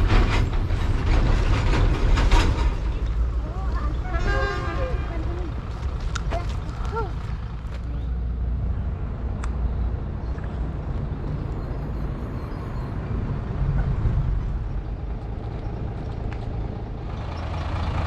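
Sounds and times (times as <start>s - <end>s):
low rumble of passing vehicles: 0.0s - 18.0s.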